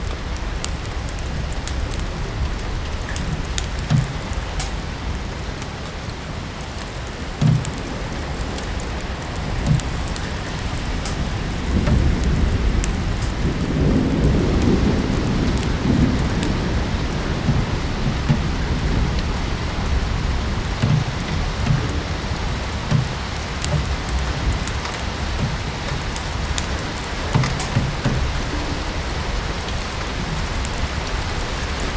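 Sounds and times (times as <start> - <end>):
low rumble of thunder: 0.0 - 31.9
steady rain: 0.0 - 31.9
wood fire crackling: 0.0 - 31.9.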